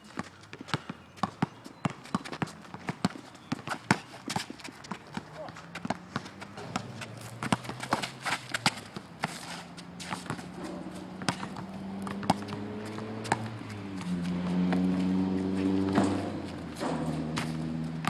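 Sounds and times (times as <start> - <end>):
running footsteps on court: 0.0 - 18.0
basketball bouncing: 0.1 - 18.0.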